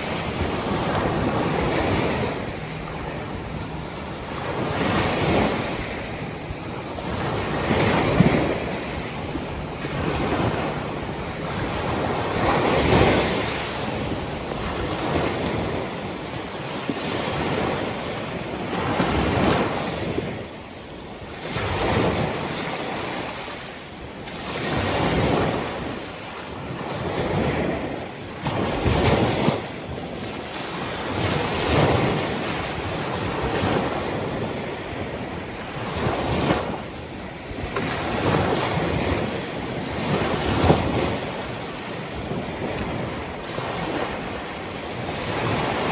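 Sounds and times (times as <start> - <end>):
small waves breaking on beach: 0.0 - 45.9.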